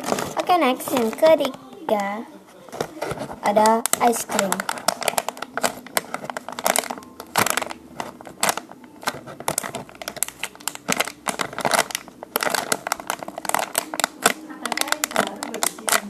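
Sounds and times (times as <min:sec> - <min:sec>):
foam toy squeezed crinkling: 0:00.0 - 0:02.1, 0:02.7 - 0:16.0.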